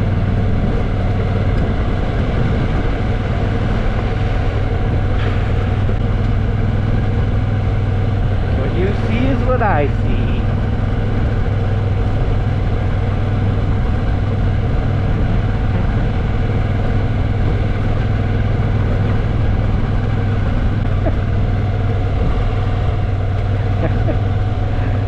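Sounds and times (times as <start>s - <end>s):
motorcycle engine running: 0.0s - 25.0s
road noise: 0.0s - 25.0s
wind noise: 0.0s - 25.0s.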